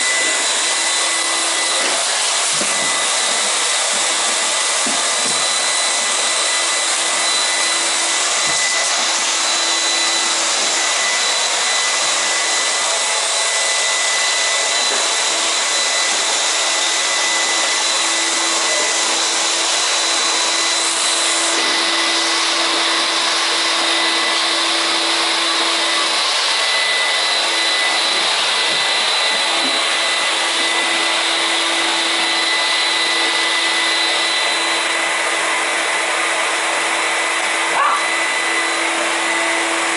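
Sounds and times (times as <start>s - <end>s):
electric motor blowing air: 0.0s - 39.9s.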